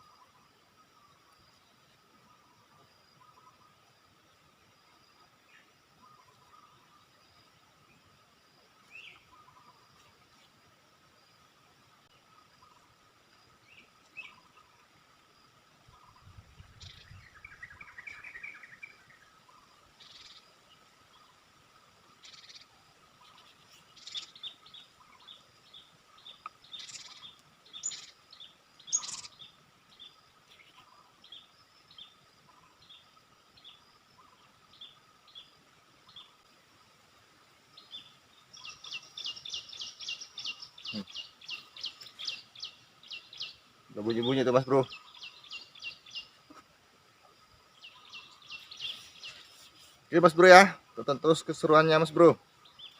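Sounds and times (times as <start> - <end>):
faint steady tone: 0.0 - 52.9
songbirds chirping: 0.0 - 52.9.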